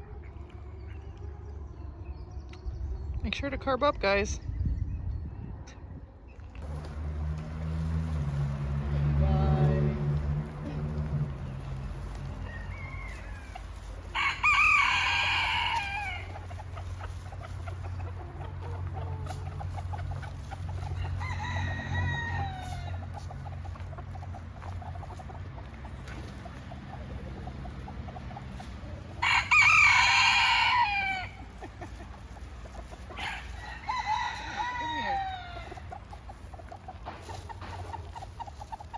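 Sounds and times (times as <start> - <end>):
roosters crowing: 6.6 - 38.9.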